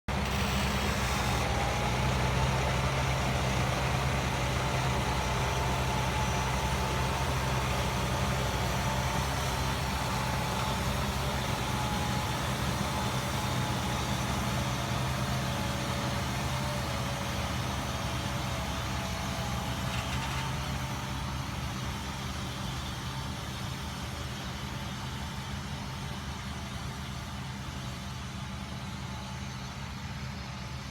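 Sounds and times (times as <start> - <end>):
tractor diesel engine running: 0.1 - 30.9
whine over engine: 0.1 - 30.9.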